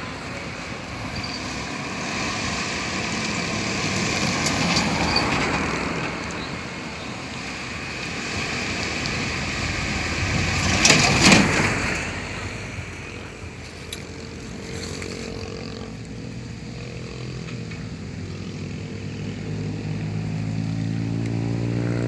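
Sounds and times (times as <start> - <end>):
motor vehicle running: 0.0 - 22.0.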